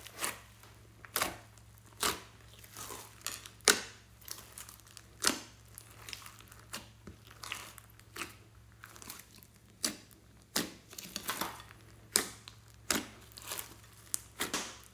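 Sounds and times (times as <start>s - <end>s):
slime crackling and popping: 0.0s - 14.9s.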